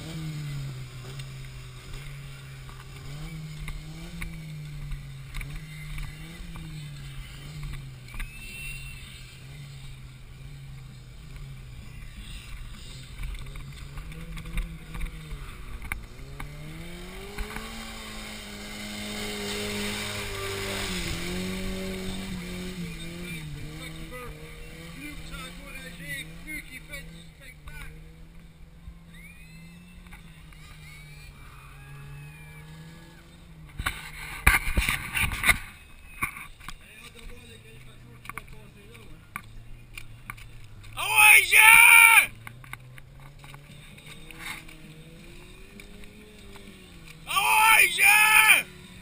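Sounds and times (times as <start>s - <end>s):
off-road engine revving: 0.0s - 49.0s.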